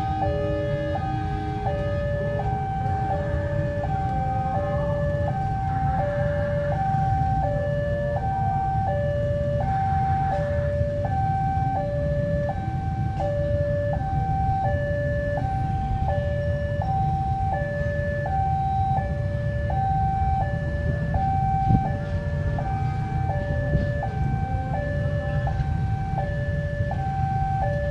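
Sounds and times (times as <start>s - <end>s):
level crossing two-tone alarm: 0.0s - 27.9s.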